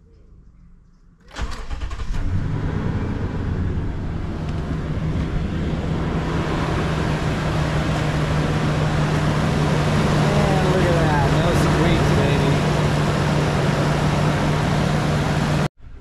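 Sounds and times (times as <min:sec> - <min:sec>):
car engine starting and idling: 0:01.2 - 0:16.0.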